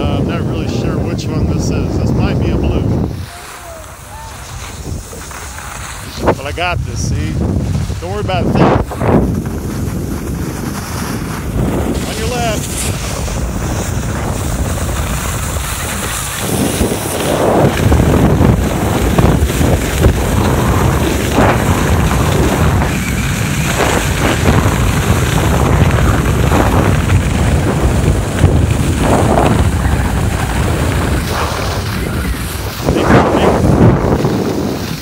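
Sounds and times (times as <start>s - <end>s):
wind buffeting microphone: 0.0s - 35.0s
skis scraping over packed snow: 0.1s - 35.0s.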